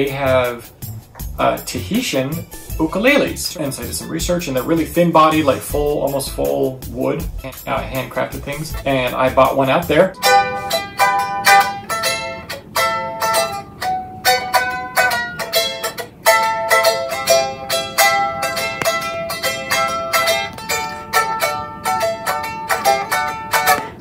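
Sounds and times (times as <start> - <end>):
ukulele strummed in chords: 0.0 - 24.0.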